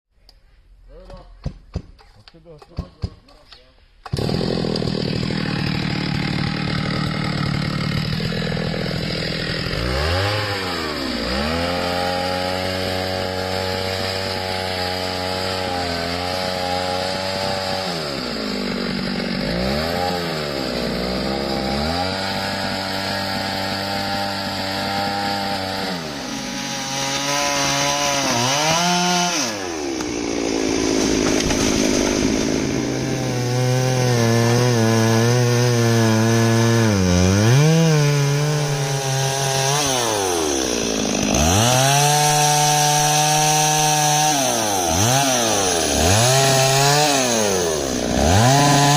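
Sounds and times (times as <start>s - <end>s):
chainsaw cutting through tree: 4.1s - 48.9s.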